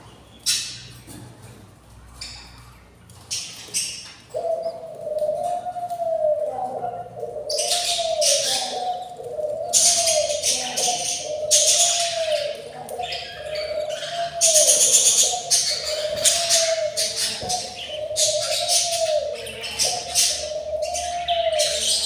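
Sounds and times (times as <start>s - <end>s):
budgie chicks raspy begging calls: 3.2s - 22.0s.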